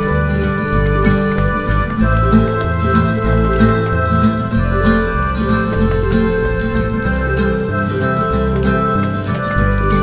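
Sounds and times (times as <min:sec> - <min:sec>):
rhythmic background music: 0:00.0 - 0:10.0.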